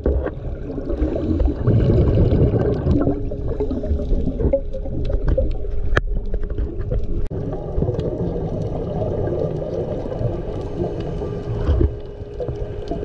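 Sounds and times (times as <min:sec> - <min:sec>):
muffled underwater rumble: 0:00.0 - 0:13.0
faint steady hum: 0:00.4 - 0:13.0.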